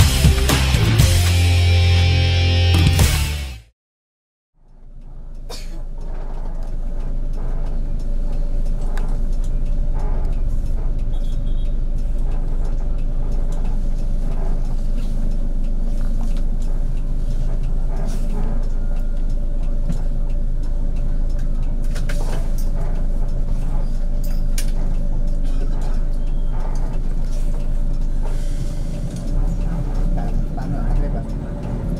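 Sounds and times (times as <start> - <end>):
bus engine rumble: 5.4 - 31.9.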